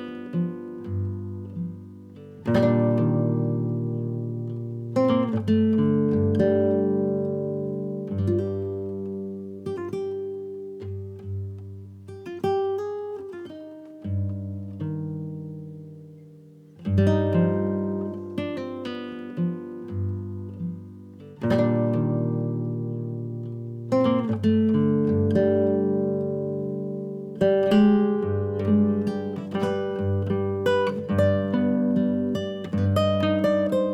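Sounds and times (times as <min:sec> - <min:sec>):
acoustic guitar melody: 0:00.0 - 0:33.9.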